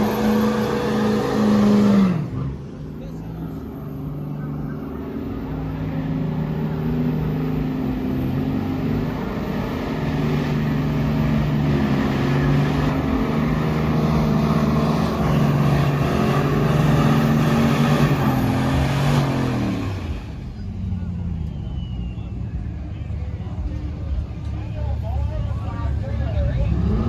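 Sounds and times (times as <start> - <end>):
truck engine revving: 0.0 - 22.2, 23.5 - 27.0.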